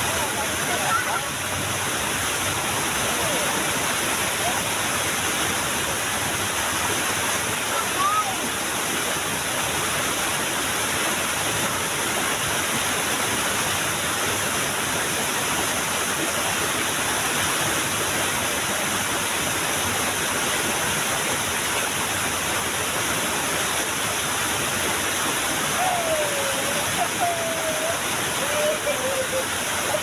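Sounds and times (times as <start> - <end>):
small waterfall rushing: 0.0 - 30.0.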